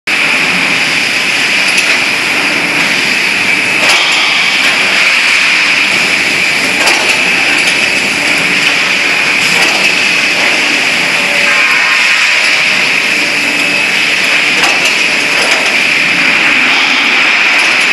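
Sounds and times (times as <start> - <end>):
riveting machines running: 0.1 - 17.9.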